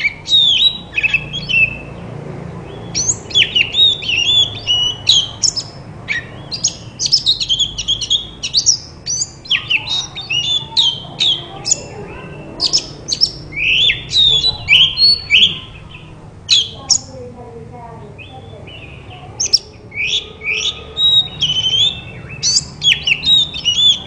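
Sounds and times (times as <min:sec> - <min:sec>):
bird singing whistled notes: 0:00.0 - 0:02.0, 0:02.7 - 0:11.9, 0:12.6 - 0:17.1, 0:18.2 - 0:24.0.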